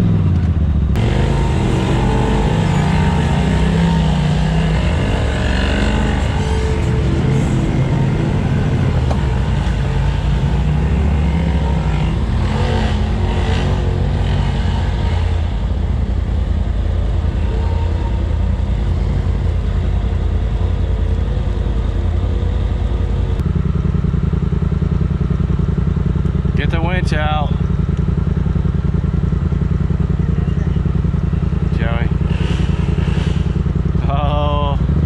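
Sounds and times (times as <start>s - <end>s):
off-road vehicle engine running: 0.0s - 35.0s.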